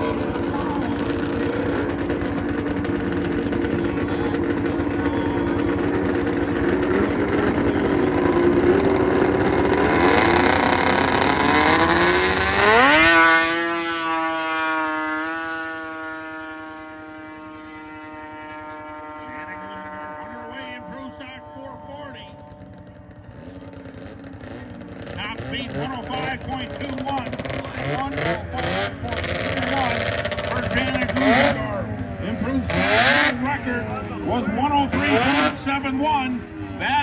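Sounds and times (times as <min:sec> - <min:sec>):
snowmobile engine at full throttle: 0:00.0 - 0:37.0.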